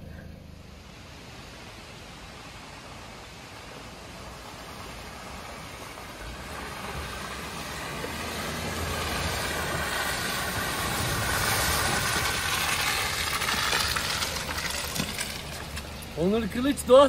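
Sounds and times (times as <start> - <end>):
car engine and tyres on dirt: 0.0 - 17.0.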